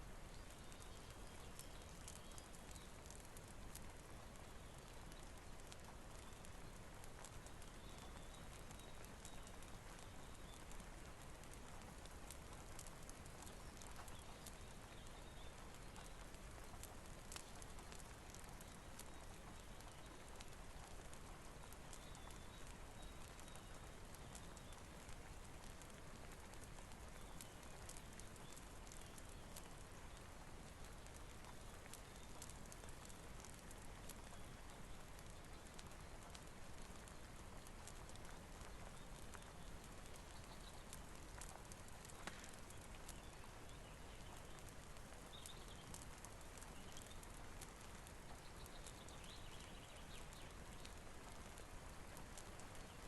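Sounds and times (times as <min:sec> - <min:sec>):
rain hiss: 0:00.0 - 0:53.0
wood fire crackling: 0:00.0 - 0:53.0.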